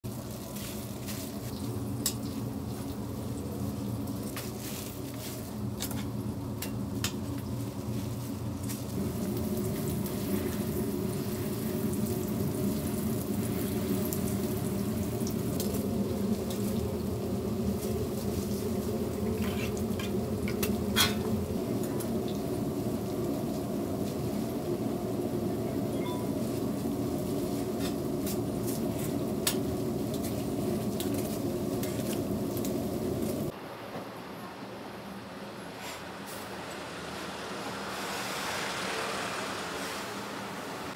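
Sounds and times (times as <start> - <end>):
pancakes sizzling on griddle: 0.0 - 33.6, 35.8 - 40.9.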